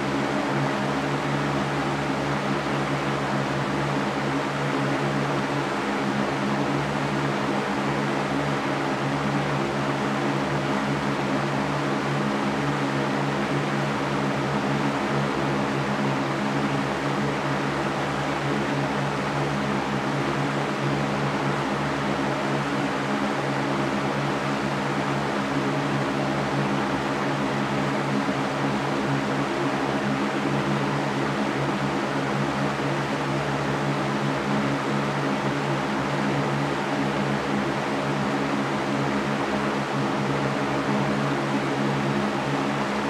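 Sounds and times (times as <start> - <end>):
floor fan running: 0.0 - 43.0.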